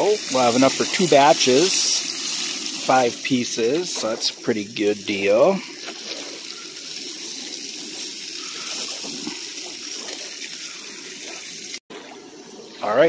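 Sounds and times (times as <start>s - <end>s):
oil sizzling in frying pan: 0.0s - 11.8s.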